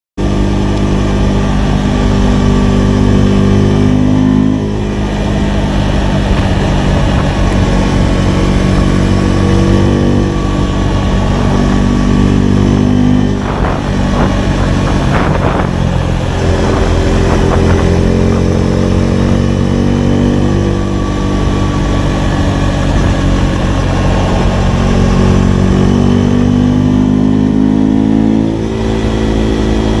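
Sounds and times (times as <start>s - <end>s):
motorcycle engine accelerating: 0.2s - 30.0s.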